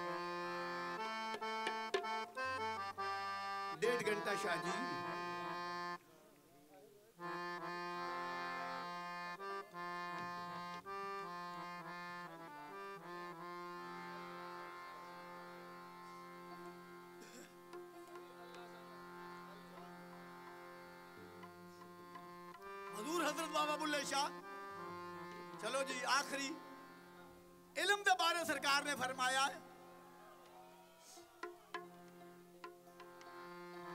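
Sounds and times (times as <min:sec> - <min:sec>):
harmonium melody: 0:00.0 - 0:06.2, 0:07.2 - 0:33.9.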